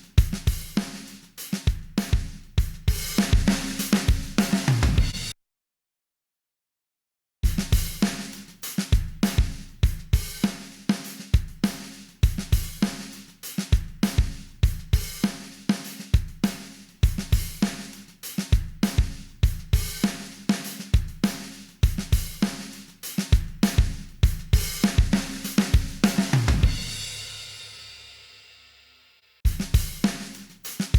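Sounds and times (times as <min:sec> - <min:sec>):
drum kit groove: 0:00.0 - 0:05.4, 0:07.4 - 0:30.9.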